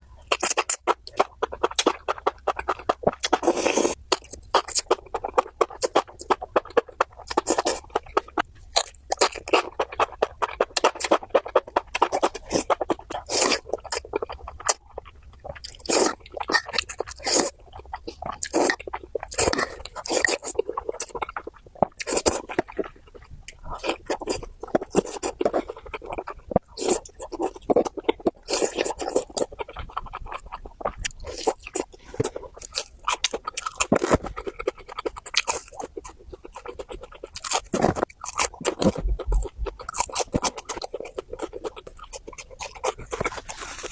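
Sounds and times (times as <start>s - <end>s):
chewing and crunching food: 0.0s - 43.9s
wet mouth sounds: 0.2s - 43.9s.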